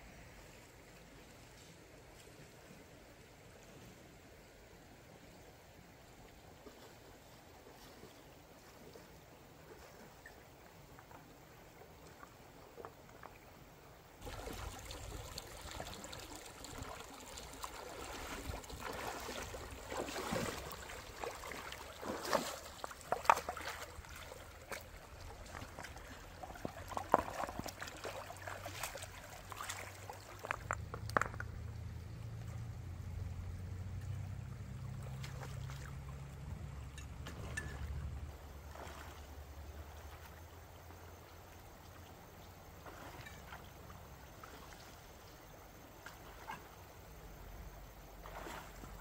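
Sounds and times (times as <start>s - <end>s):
water splashing and trickling: 0.1s - 49.0s.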